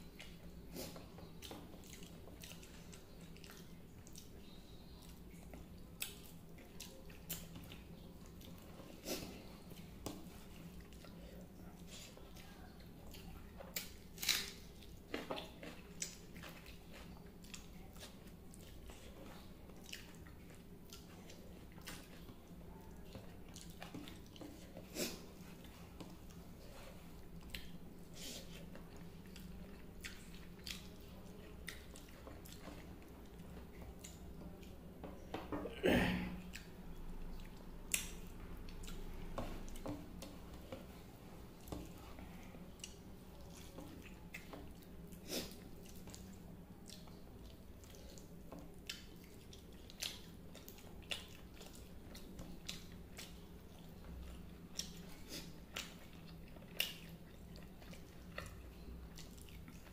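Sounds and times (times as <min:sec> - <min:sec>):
person chewing food: 0:00.0 - 0:35.8, 0:36.4 - 0:59.9.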